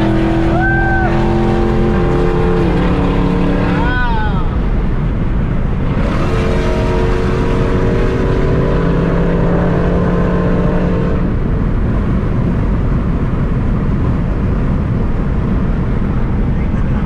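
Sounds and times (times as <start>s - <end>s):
car engine drone: 0.0s - 17.0s
loud road noise: 0.0s - 17.0s.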